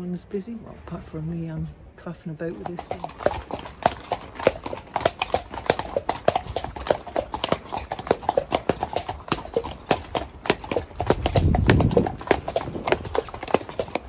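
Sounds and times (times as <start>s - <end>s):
horse hooves clip-clopping on tarmac: 2.5s - 14.0s.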